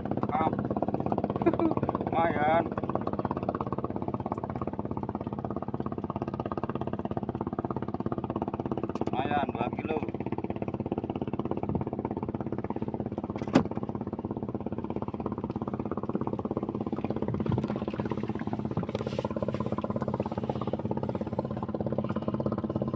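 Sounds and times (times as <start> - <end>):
small engine running: 0.8 - 22.9.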